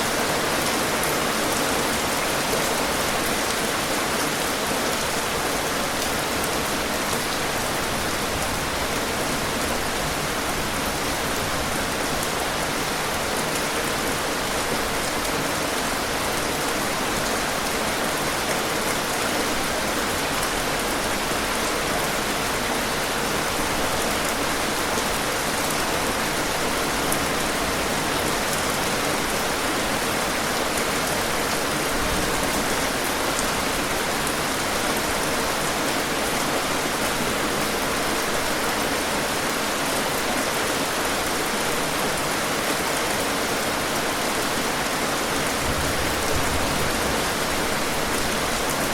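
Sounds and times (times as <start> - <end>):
rain falling on a surface: 0.0 - 48.9.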